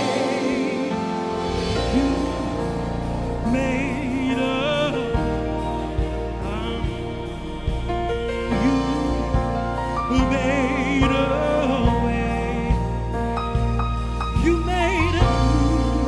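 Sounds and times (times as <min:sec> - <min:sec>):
band accompaniment: 0:00.0 - 0:16.0
gospel singing with vibrato: 0:00.0 - 0:16.0.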